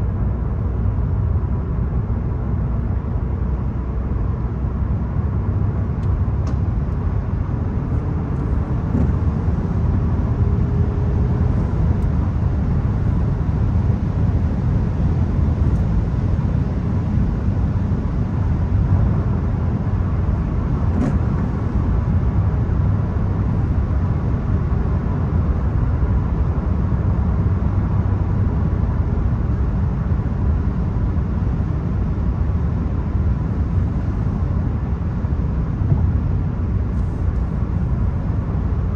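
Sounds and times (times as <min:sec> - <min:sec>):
car engine rumble: 0:00.0 - 0:38.9
road noise: 0:00.0 - 0:38.9.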